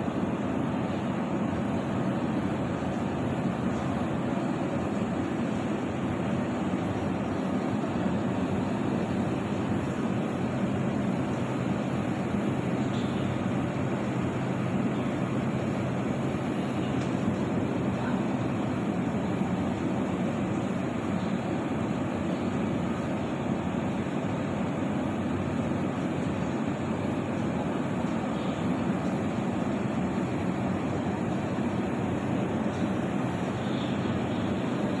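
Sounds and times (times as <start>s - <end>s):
mechanical drone with low hum: 0.0s - 35.0s.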